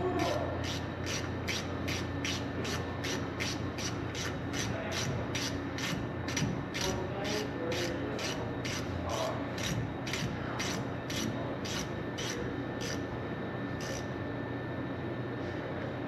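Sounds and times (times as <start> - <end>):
hand tool rasping on metal: 0.2 - 13.0, 13.8 - 14.0.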